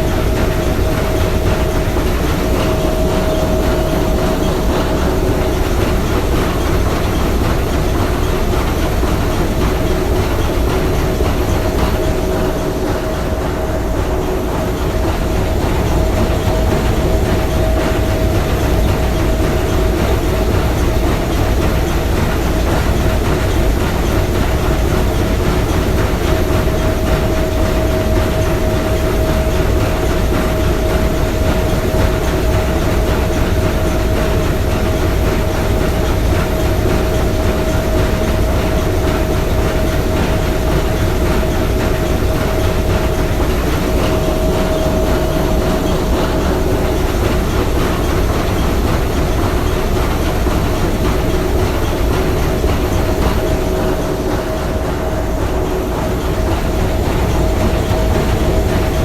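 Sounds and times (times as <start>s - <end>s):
steam engine running: 0.0s - 59.0s.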